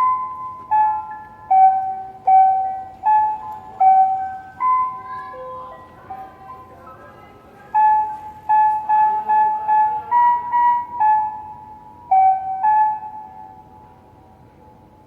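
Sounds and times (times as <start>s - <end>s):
loudspeaker chime melody: 0.0s - 13.7s.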